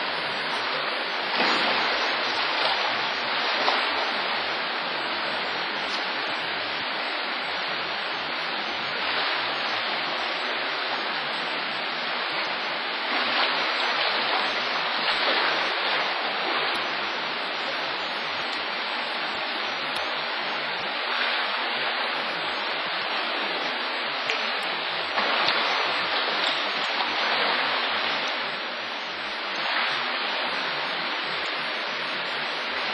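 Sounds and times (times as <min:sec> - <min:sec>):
steady rushing hiss: 0:00.0 - 0:32.9.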